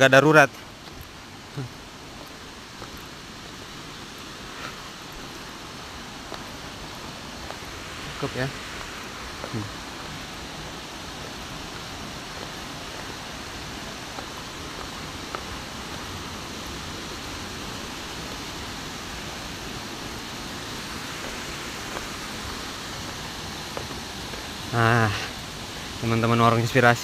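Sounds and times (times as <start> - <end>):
waterfall and river rushing: 0.0 - 27.0.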